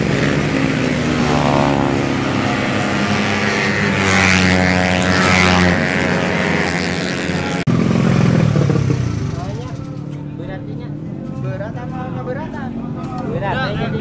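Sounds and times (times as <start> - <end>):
racing scooter engines: 0.0 - 14.0.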